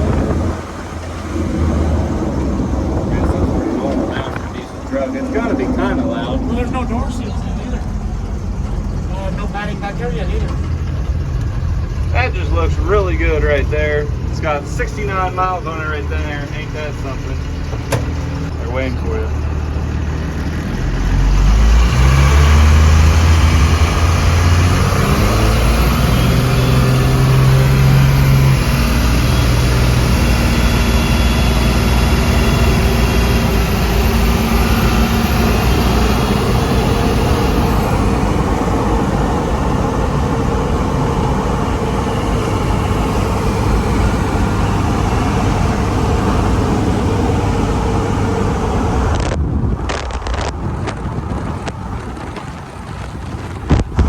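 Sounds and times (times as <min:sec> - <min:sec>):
diesel truck engine running: 0:00.0 - 0:54.0
road noise: 0:00.0 - 0:54.0.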